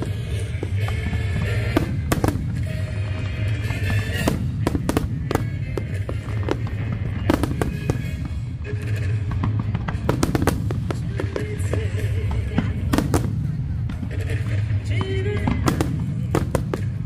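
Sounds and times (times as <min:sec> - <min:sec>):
fireworks bangs: 0:00.0 - 0:17.0
music playing: 0:00.0 - 0:17.0
steady low rumble: 0:00.0 - 0:17.0.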